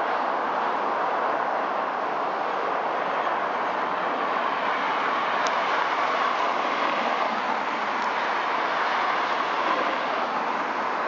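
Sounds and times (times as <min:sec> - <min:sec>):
highway traffic noise: 0:00.0 - 0:11.0.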